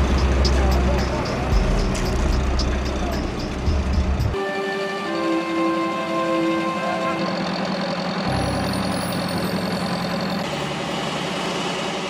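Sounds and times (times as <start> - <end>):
heavy vehicle engine idling: 0.0 - 4.4, 6.1 - 12.0.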